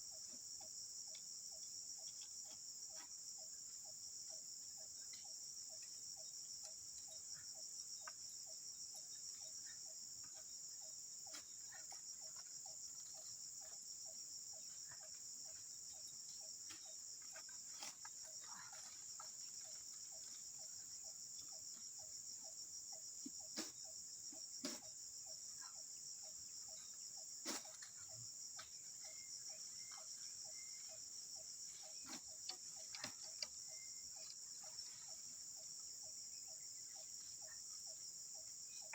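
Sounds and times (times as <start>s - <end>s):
high-pitched insect trill: 0.0s - 38.9s
lower pulsing insect call: 0.0s - 38.9s.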